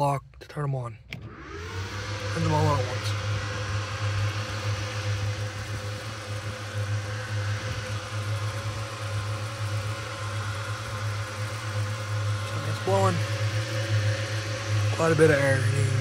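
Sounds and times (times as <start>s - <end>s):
cooling fans whirring: 0.0s - 16.0s
steady low hum: 0.0s - 16.0s.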